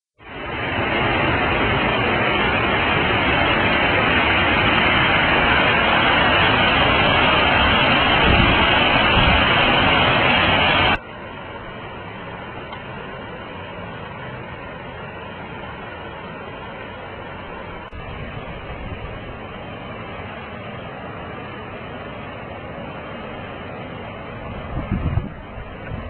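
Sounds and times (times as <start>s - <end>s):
river water rushing over rocks: 0.2s - 26.0s.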